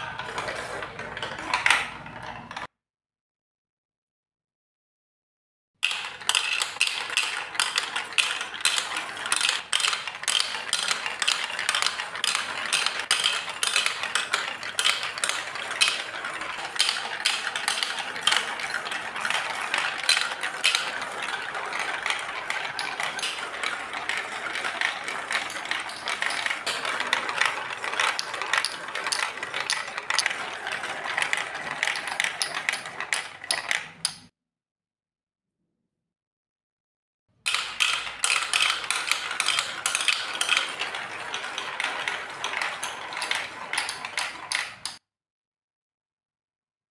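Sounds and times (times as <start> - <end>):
plastic balls rattling down chutes: 0.0 - 2.7, 5.8 - 34.3, 37.5 - 45.0.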